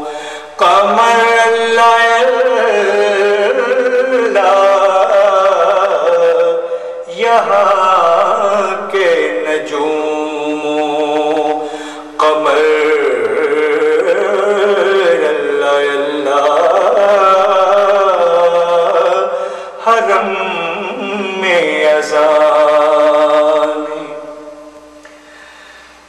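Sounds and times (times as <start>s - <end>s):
person singing a hymn: 0.0s - 25.0s.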